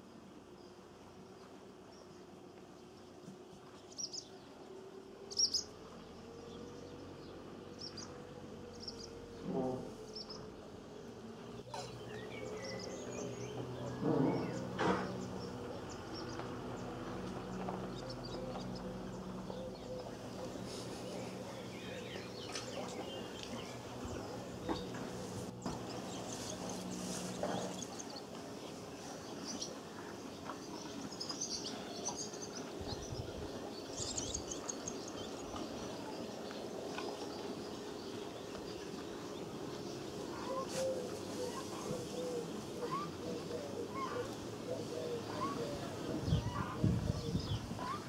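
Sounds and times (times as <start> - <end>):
steady background noise: 0.0 - 48.0
low humming buzz: 0.1 - 48.0
swallows chirping: 5.3 - 48.0.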